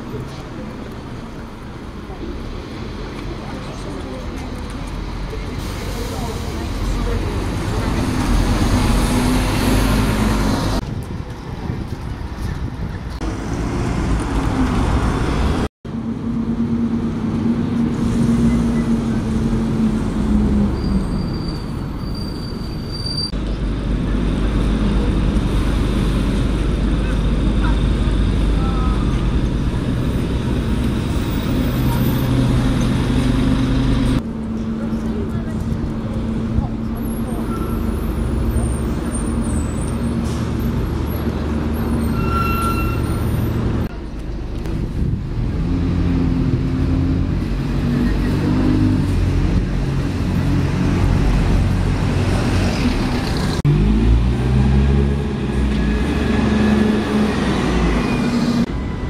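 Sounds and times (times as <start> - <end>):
bus engine rumble: 0.0 - 59.0
street traffic: 0.0 - 59.0.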